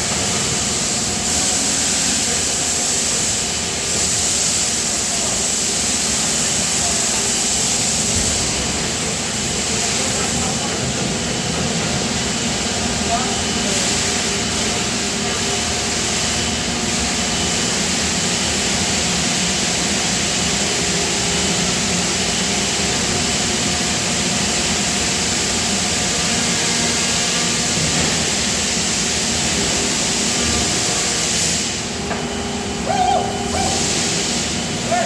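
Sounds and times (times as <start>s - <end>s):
machinery hiss: 0.0s - 35.0s
machinery hum: 0.0s - 35.0s.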